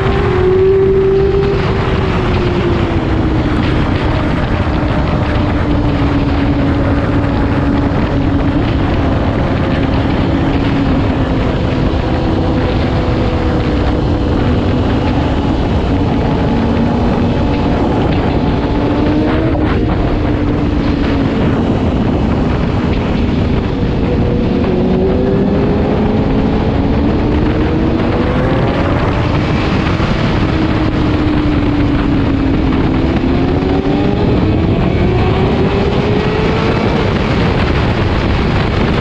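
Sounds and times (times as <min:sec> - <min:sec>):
motorcycle engine running: 0:00.0 - 0:39.0
wind rush on microphone: 0:00.0 - 0:39.0.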